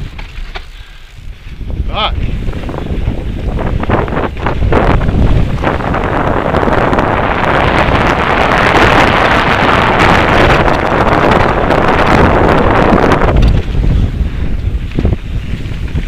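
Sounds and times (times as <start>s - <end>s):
bike rattling: 0.0s - 16.0s
bike tyres rolling on dirt: 0.0s - 16.0s
wind rushing over microphone: 0.0s - 16.0s.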